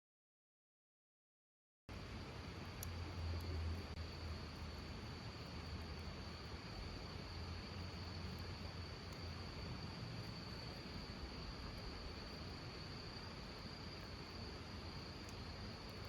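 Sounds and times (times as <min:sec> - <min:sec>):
insects trilling: 0:01.9 - 0:16.0.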